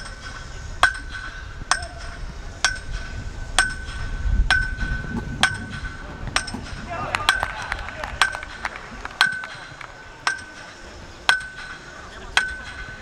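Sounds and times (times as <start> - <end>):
sharp metallic clinks: 0.0 - 7.6, 9.2 - 13.0.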